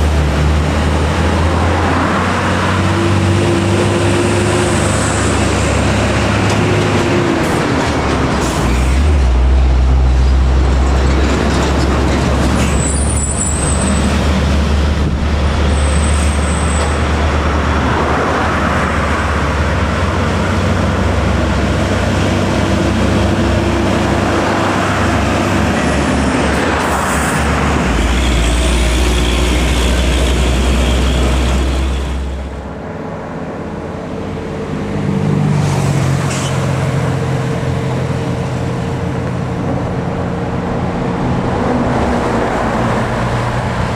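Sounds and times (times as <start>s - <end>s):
truck diesel engines labouring: 0.0s - 43.9s.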